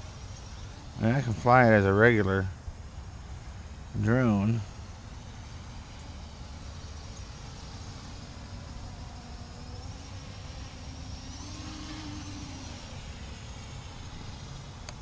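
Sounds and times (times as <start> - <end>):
drone propellers whirring: 0.0 - 15.0.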